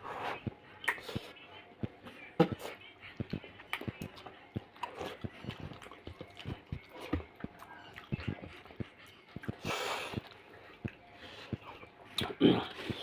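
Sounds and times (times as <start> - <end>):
wet chewing and lip-smacking: 0.3 - 13.0.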